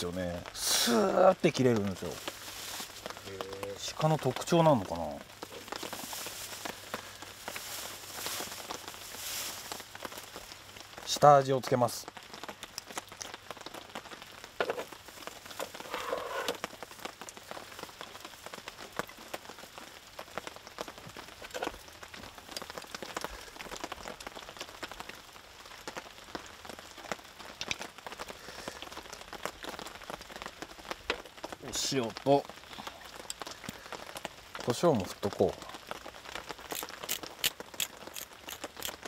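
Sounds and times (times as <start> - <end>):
light rain pattering: 0.0 - 39.0.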